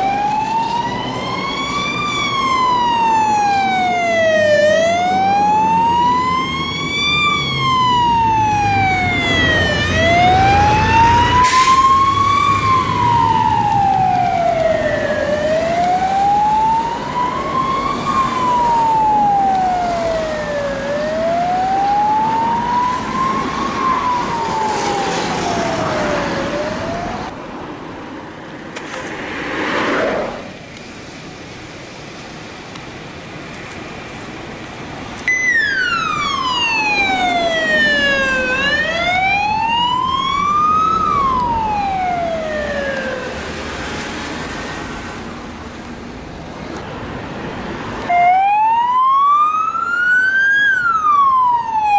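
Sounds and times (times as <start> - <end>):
fire engine wail siren: 0.0 - 27.6, 35.2 - 45.3, 48.0 - 51.9
traffic: 0.0 - 51.9
truck engine: 0.0 - 51.9
vehicle passing with road noise: 0.0 - 51.9.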